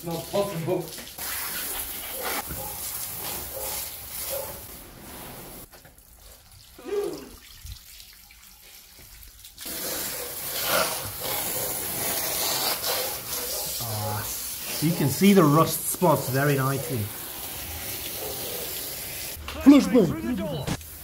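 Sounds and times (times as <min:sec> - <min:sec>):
hose water spraying on a car: 0:00.0 - 0:21.0.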